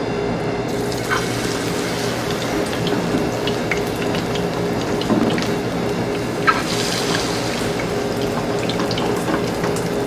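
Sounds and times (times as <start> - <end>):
fish sizzling in hot oil: 0.7 - 10.0.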